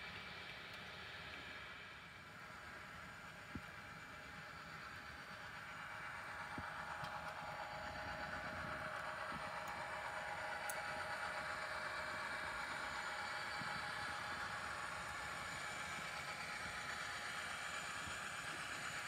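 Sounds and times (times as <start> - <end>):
model train running: 0.0 - 19.0.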